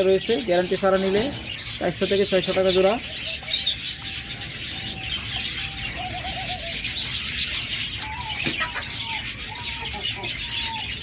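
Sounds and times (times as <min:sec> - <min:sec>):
caged birds chirping: 0:00.0 - 0:11.0
doves cooing: 0:01.0 - 0:11.0.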